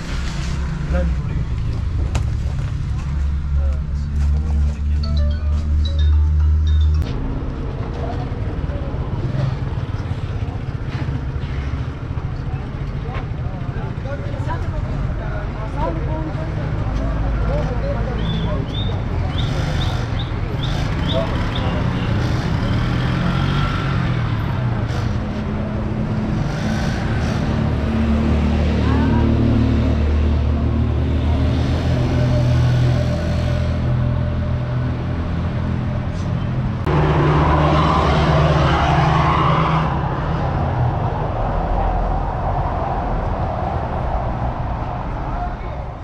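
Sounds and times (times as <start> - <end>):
traffic rumble: 0.0 - 46.0
vehicle engine droning: 0.0 - 46.0.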